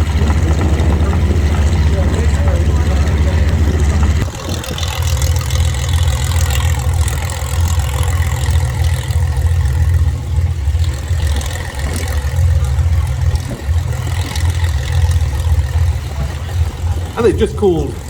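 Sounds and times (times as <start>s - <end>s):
aircraft engine drone: 0.0s - 18.0s
wind buffeting microphone: 0.0s - 18.0s.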